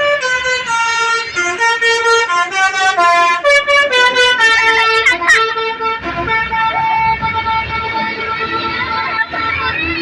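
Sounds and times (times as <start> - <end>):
bus horn playing tune: 0.0 - 9.1.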